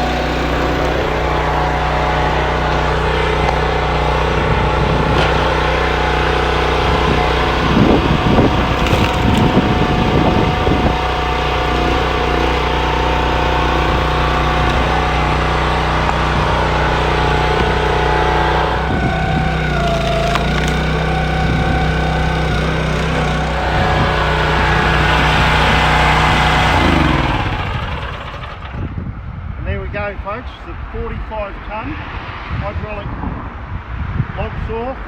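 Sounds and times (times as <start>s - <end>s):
log splitter engine running: 0.0s - 29.1s.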